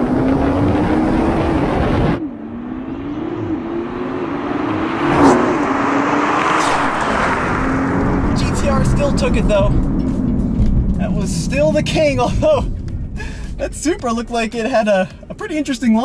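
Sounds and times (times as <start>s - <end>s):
sports cars accelerating hard: 0.0s - 13.2s
cars rushing past: 0.0s - 15.2s.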